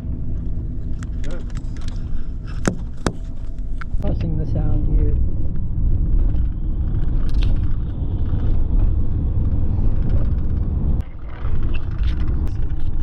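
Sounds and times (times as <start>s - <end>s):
road and tyre rumble in cabin: 0.0s - 13.0s.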